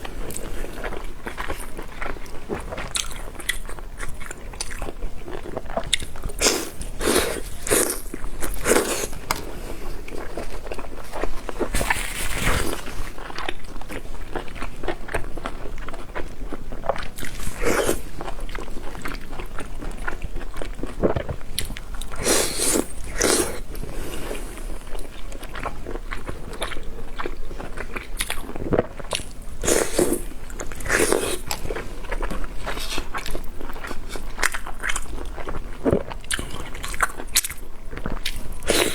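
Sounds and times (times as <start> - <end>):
person chewing wetly: 0.0 - 38.9.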